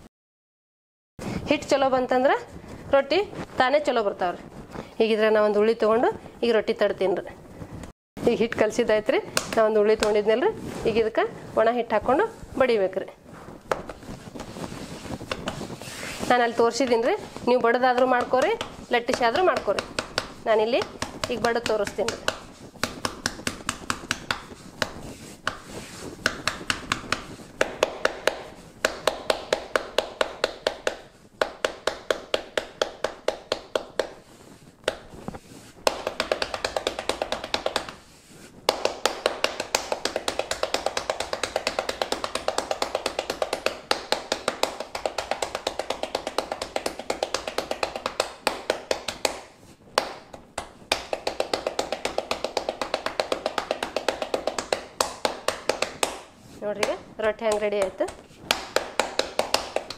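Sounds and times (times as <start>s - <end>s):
palms patting dough: 8.2s - 59.9s.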